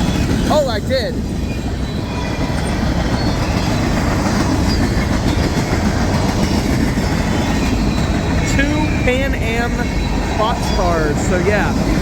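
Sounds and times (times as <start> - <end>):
steel wheels on rails: 0.0 - 12.0.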